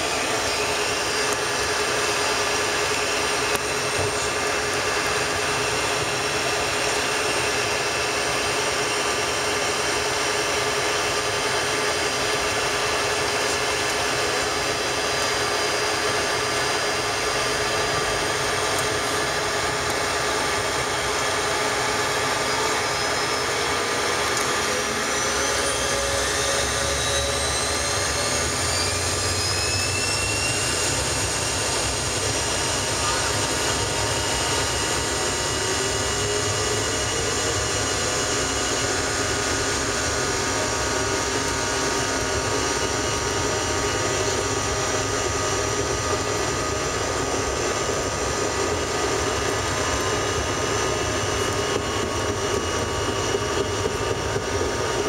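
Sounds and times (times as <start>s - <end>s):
jet engine whine: 0.0s - 55.0s.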